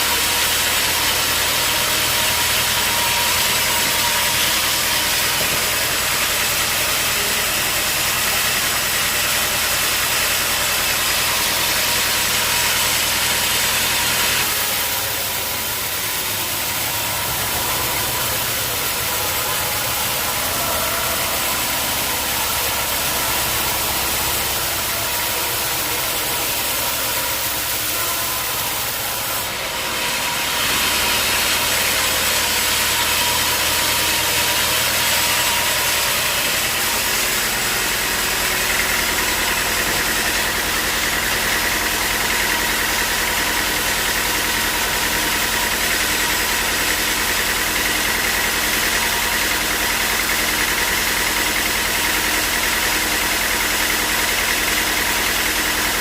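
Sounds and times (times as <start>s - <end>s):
high-pitched machine whine: 0.0s - 56.0s
sawmill machinery running: 0.0s - 56.0s.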